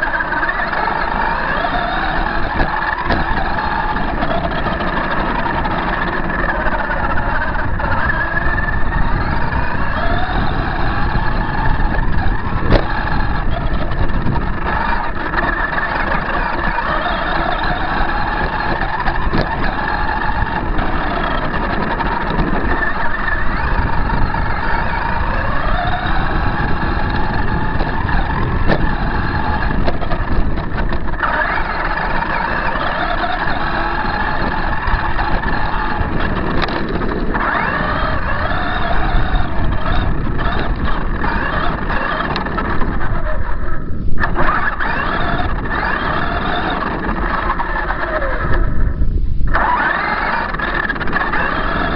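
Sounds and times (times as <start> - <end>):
steady noisy rumble: 0.0 - 51.9
toy truck motor whining: 0.0 - 51.9.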